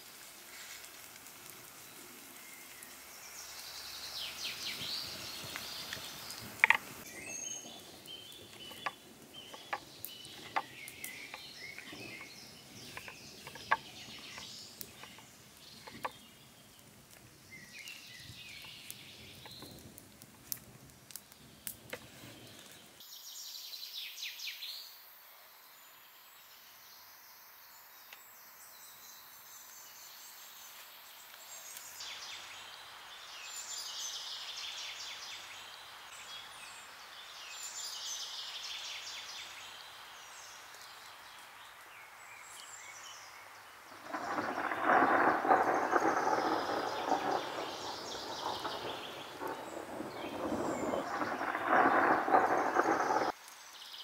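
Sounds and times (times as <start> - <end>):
songbirds calling: 1.7 - 20.0, 27.9 - 54.0.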